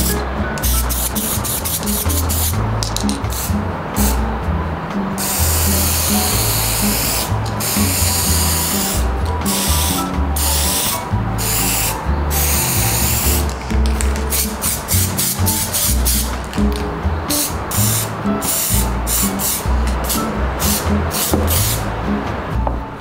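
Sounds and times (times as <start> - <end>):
background music: 0.0 - 23.0
spray paint can hissing: 0.6 - 4.2, 5.2 - 21.9.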